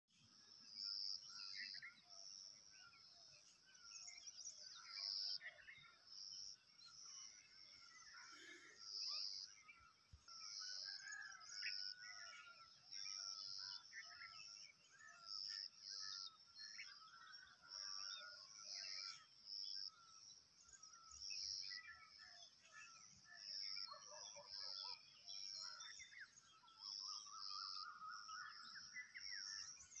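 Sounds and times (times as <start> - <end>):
many birds chirping: 0.1 - 30.0.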